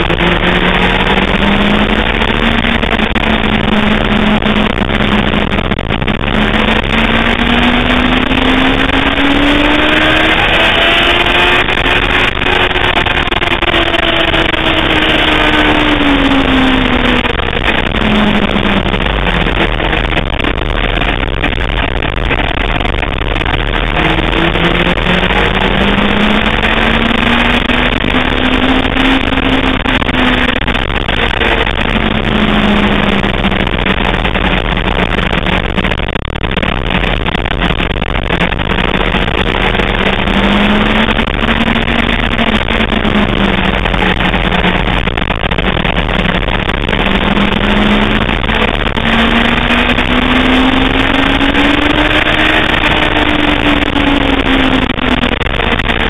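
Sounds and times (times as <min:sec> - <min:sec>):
motorcycle engine revving: 0:00.0 - 0:56.0
rushing wind noise: 0:00.0 - 0:56.0.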